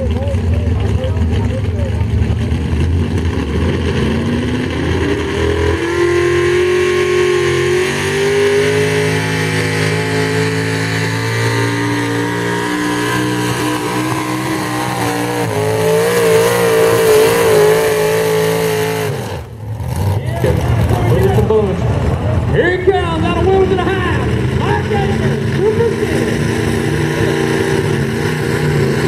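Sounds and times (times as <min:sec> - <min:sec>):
tractor engine at full throttle: 0:00.0 - 0:29.0.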